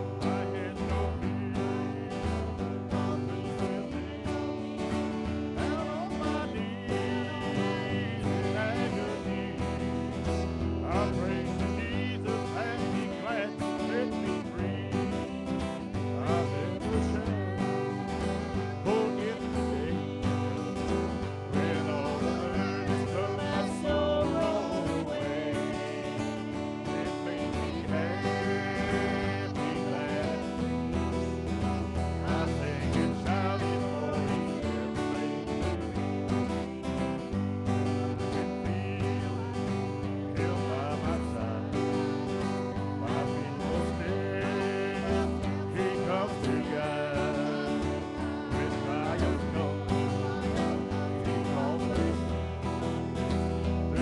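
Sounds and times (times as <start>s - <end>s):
acoustic guitar strumming: 0.0s - 54.0s
group of voices singing: 0.0s - 54.0s.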